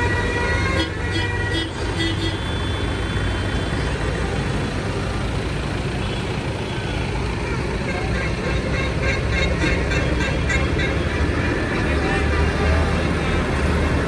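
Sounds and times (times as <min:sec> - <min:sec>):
tractor engines rumbling: 0:00.0 - 0:14.0.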